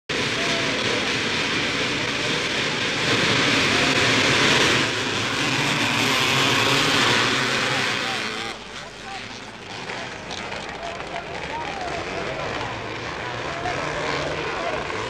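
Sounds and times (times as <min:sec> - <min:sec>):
motocross bikes revving: 0:00.1 - 0:15.0.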